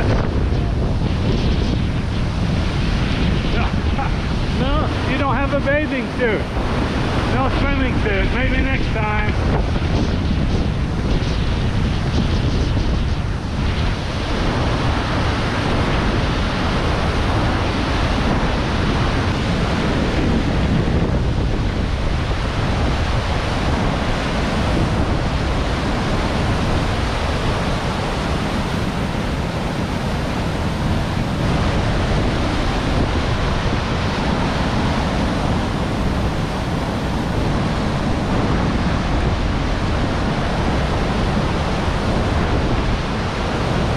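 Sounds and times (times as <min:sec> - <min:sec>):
rushing water roar: 0:00.0 - 0:43.9
wind buffeting microphone: 0:00.0 - 0:43.9.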